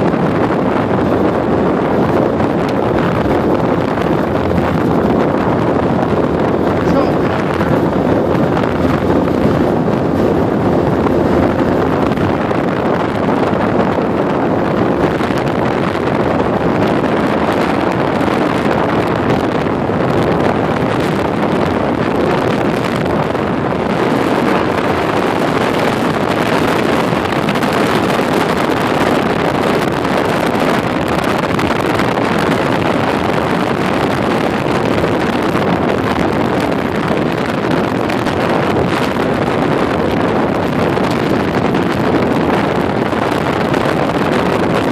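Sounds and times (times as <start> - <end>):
motorboat running: 0.0 - 44.9
wind buffeting microphone: 0.0 - 44.9.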